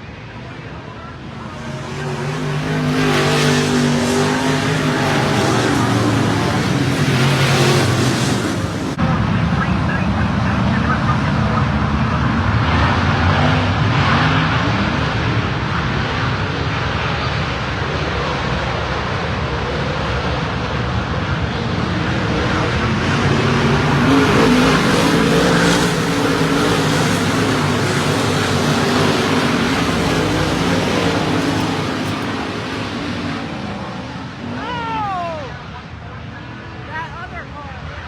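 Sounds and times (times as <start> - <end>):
race car engines running: 0.0 - 38.0.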